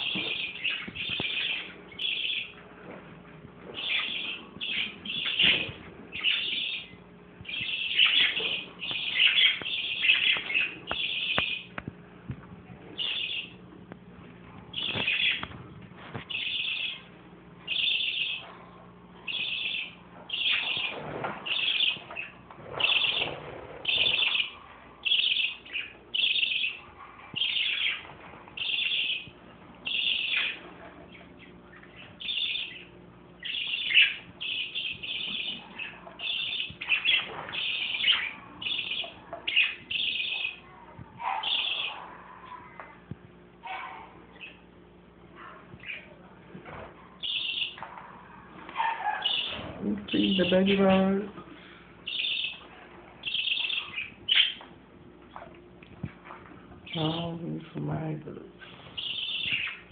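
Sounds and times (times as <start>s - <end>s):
parakeets chirping: 0.0s - 2.6s, 3.7s - 11.9s, 12.9s - 13.6s, 14.7s - 15.6s, 16.2s - 42.8s, 43.6s - 46.3s, 47.1s - 55.6s, 56.2s - 59.9s.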